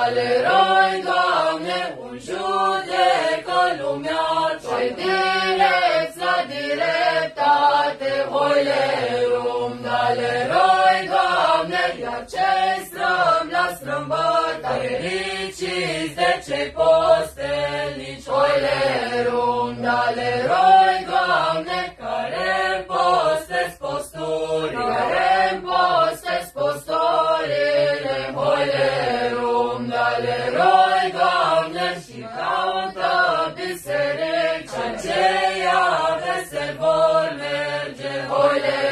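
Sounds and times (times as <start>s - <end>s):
group singing a carol: 0.0s - 38.9s.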